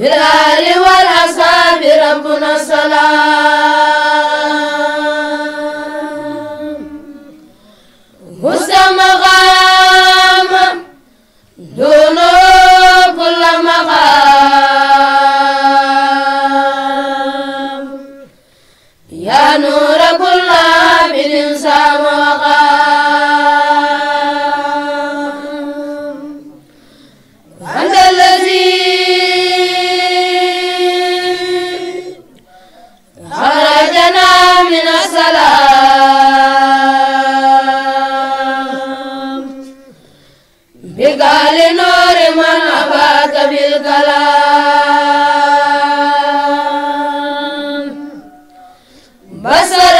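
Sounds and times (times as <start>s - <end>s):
high voice chanting: 0.0s - 18.4s, 27.5s - 49.9s.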